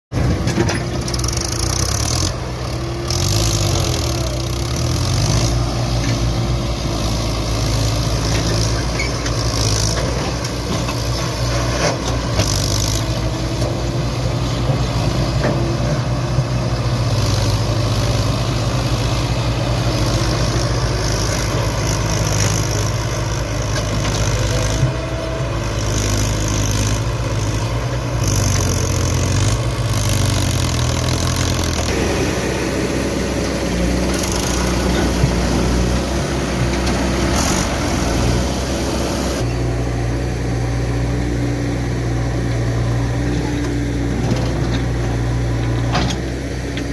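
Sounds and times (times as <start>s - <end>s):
diesel engines running: 0.1s - 46.9s.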